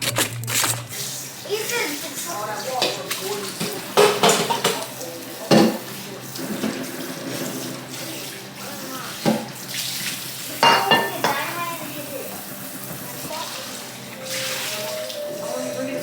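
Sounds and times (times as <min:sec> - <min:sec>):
tap water running into sink: 0:00.9 - 0:16.0.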